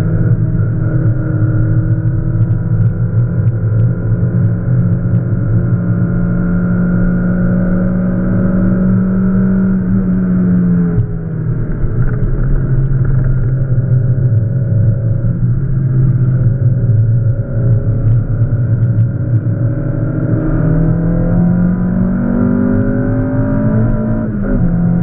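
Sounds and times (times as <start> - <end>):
car engine running hard: 0.0 - 25.0.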